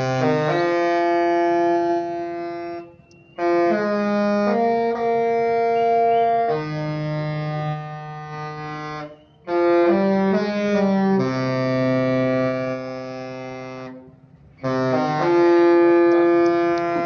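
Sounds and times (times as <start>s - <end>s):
ship's musical horn playing: 0.0s - 17.0s.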